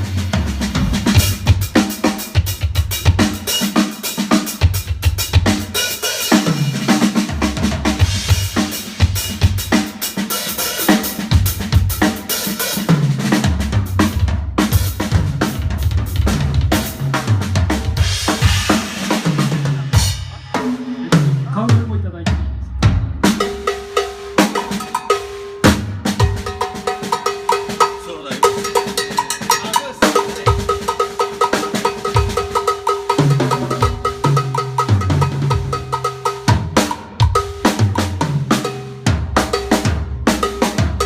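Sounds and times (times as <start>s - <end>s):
drum kit playing: 0.0s - 41.0s.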